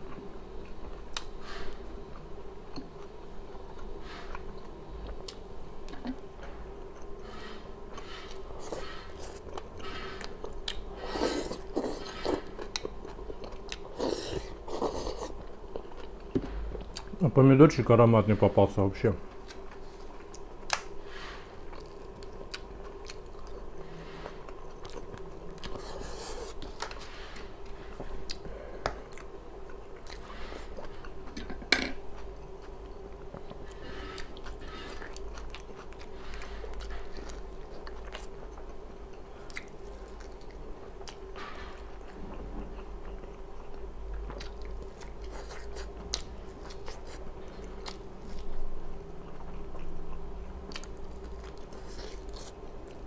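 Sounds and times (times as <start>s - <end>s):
steady low hum: 0.0s - 53.0s
close chewing and crunching: 2.1s - 17.3s, 21.6s - 53.0s.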